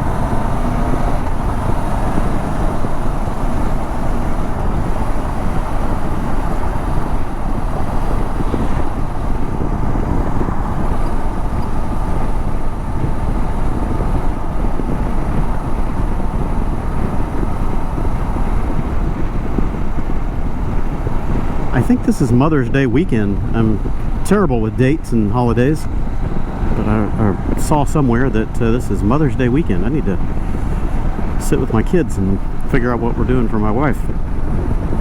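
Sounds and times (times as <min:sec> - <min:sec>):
wind on microphone: 0:00.0 - 0:35.0
wind rush and road noise: 0:00.0 - 0:35.0.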